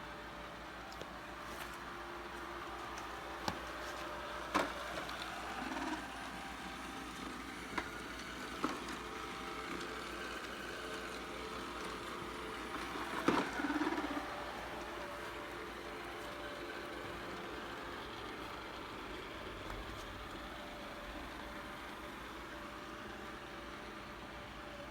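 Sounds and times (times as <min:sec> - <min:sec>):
robot vacuum cleaner humming: 0:00.0 - 0:24.9.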